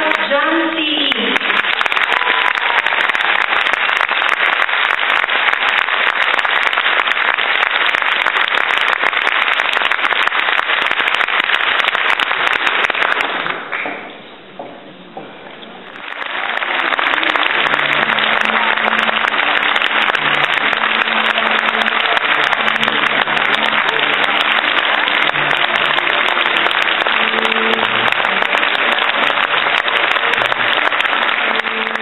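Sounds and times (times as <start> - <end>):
audience applauding: 1.0 - 14.0, 15.9 - 32.0.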